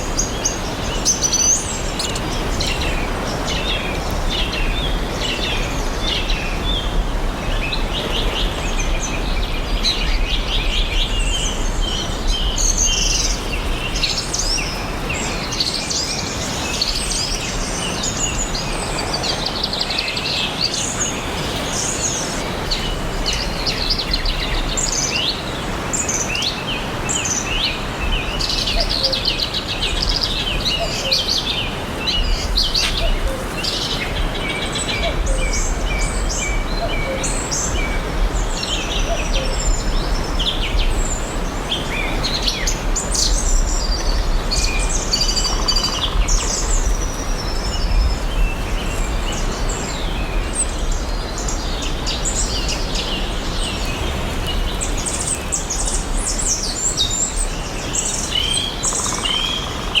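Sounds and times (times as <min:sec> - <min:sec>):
forest birds chirping: 0:00.0 - 1:00.0.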